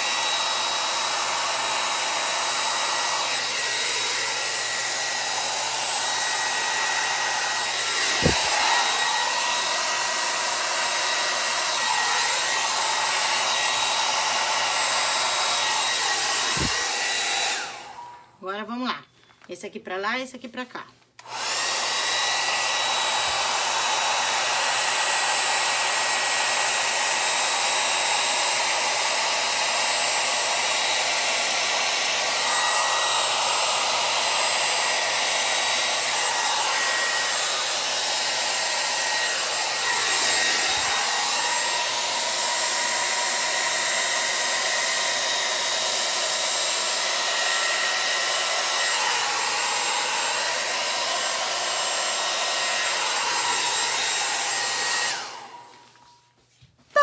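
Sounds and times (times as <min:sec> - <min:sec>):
hair dryer running: 0:00.0 - 0:18.8, 0:21.2 - 0:57.0.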